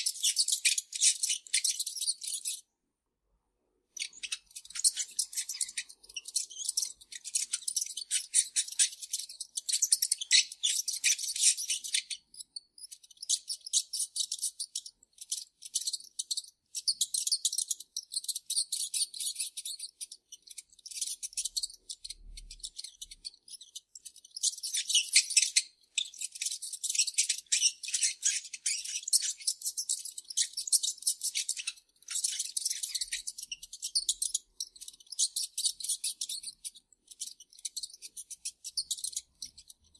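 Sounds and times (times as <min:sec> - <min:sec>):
mice squeaking: 0:00.0 - 0:02.7, 0:03.9 - 0:39.9.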